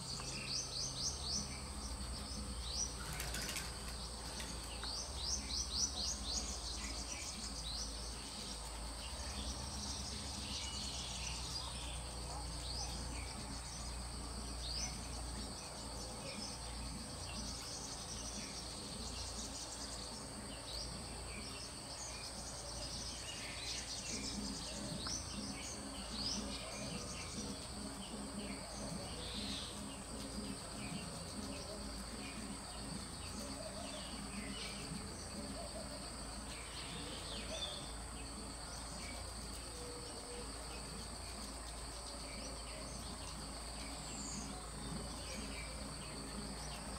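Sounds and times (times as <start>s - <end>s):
high-pitched insect drone: 0.0s - 46.9s.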